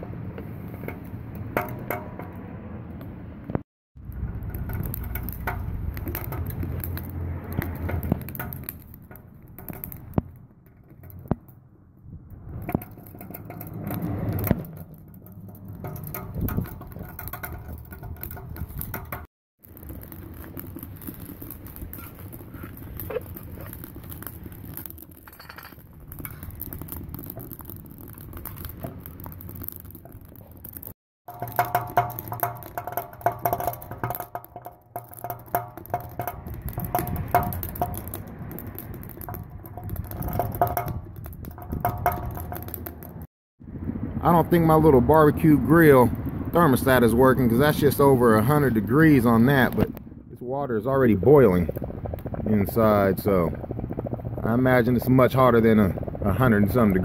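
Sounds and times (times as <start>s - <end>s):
fire crackling: 0.0s - 57.0s
stove fire rumbling: 0.0s - 57.0s.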